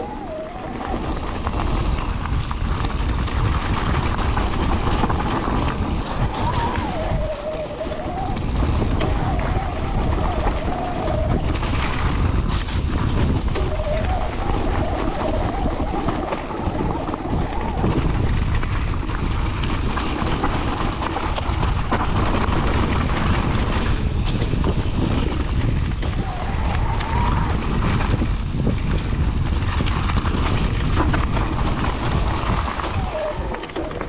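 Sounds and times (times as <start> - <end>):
bike rattling over bumps: 0.0 - 34.0
tyres rumbling on loose gravel: 0.0 - 34.0
wind buffeting microphone: 0.0 - 34.0.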